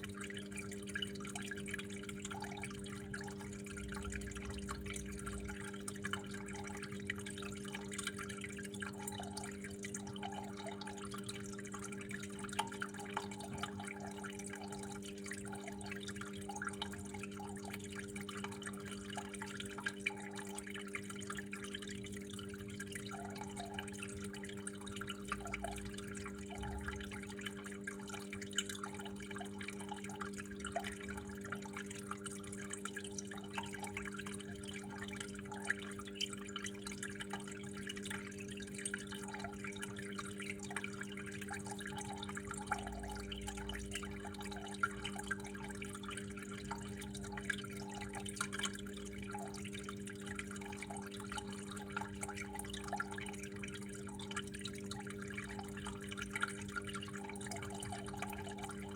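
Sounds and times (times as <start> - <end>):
water drips and splashes: 0.0 - 58.9
water flowing: 0.0 - 58.9.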